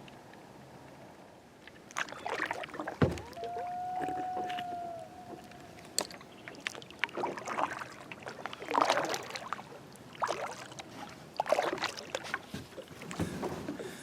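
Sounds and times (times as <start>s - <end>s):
paddle strokes splashing water: 1.6s - 14.0s.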